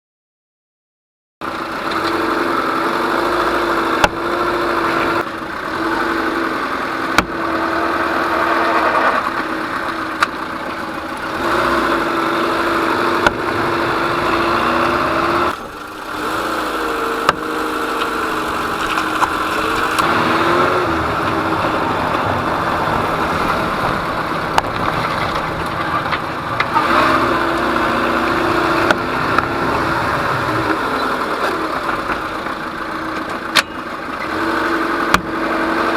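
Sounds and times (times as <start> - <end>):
car engine and road drone: 1.4 - 35.9.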